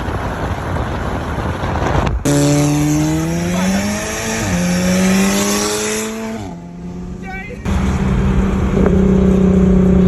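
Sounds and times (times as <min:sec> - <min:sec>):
car engine accelerating: 0:01.8 - 0:10.0.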